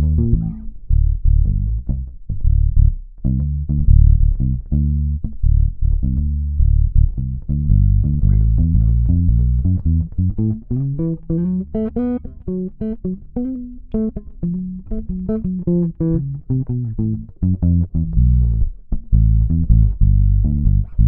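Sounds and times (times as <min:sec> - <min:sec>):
plucked electric bass: 0:00.0 - 0:21.0.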